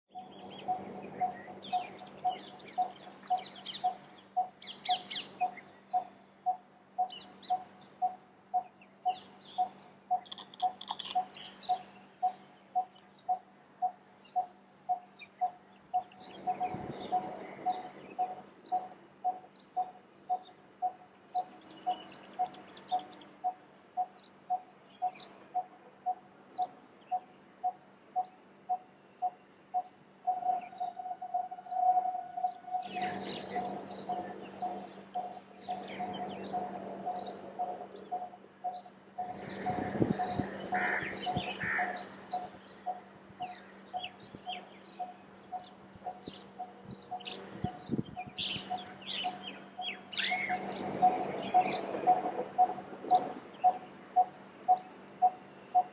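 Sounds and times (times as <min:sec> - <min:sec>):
bird repeating low note: 0:00.1 - 0:55.9
birds chirping: 0:00.1 - 0:55.9
faint steady hum: 0:00.1 - 0:55.9.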